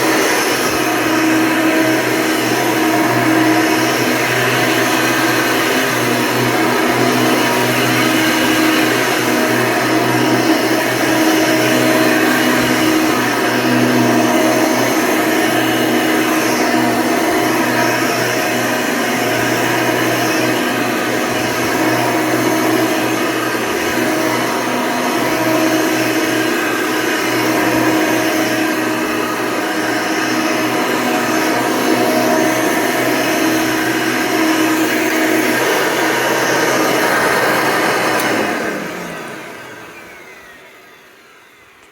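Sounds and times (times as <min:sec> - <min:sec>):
upright vacuum cleaner running: 0:00.0 - 0:41.9.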